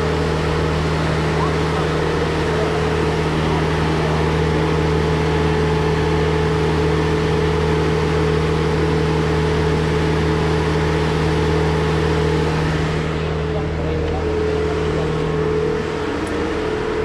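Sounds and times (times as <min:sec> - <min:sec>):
boat lift engine droning: 0:00.0 - 0:17.0.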